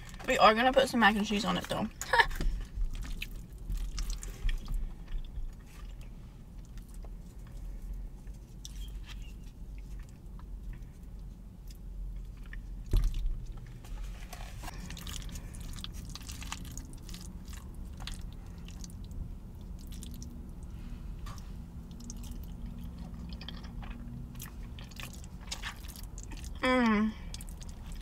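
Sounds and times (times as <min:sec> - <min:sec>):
chewing soft food: 0:02.7 - 0:13.8, 0:14.6 - 0:26.6, 0:27.2 - 0:28.0.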